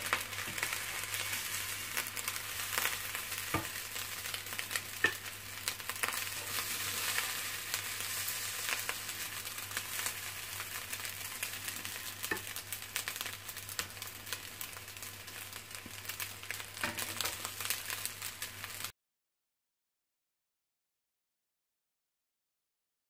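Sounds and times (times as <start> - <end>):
rice sizzling in a pan: 0.0 - 18.9.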